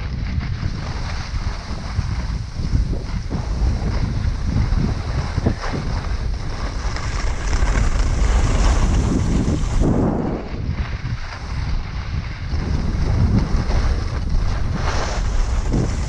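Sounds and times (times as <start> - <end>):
skis sliding on packed snow: 0.0 - 16.0
wind buffeting microphone: 0.0 - 16.0.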